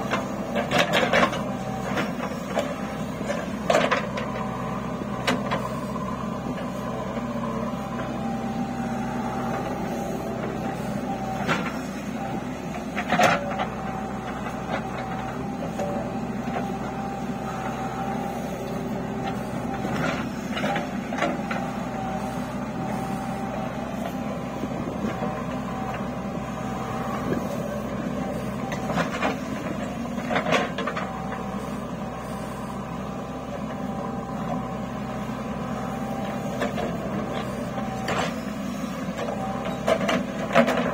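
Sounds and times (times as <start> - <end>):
constant whine: 0.0 - 40.9
diesel engine running under load: 0.0 - 40.9.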